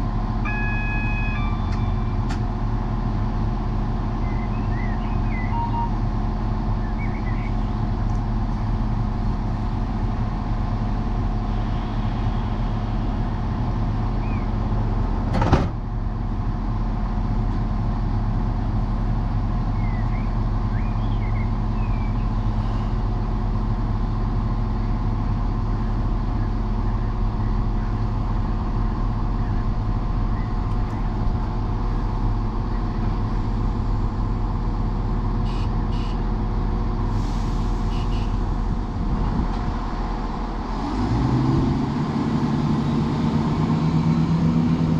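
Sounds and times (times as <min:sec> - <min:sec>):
train engine idling: 0:00.0 - 0:40.8.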